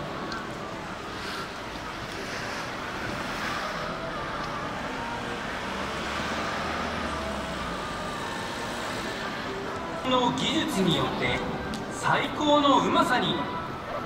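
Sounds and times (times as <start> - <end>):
cars passing: 0.0 - 14.0.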